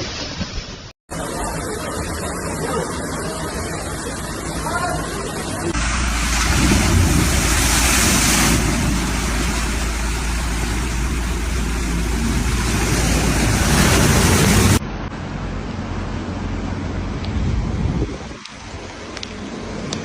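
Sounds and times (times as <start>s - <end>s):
storm wind and water roaring: 0.0s - 20.0s.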